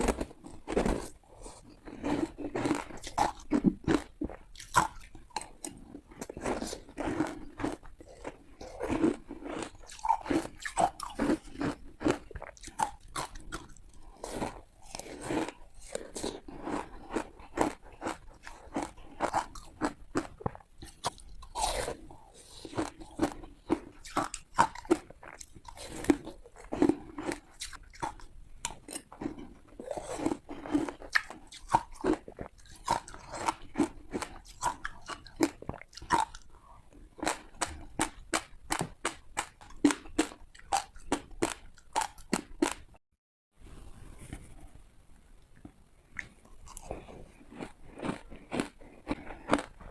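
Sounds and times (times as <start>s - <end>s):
teeth crunching ice: 0.0s - 42.9s, 46.2s - 49.9s.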